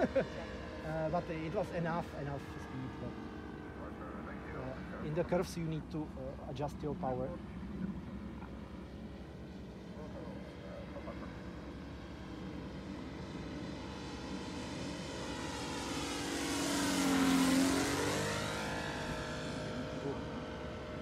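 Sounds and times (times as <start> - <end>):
model plane engine flypast: 0.0 - 21.0.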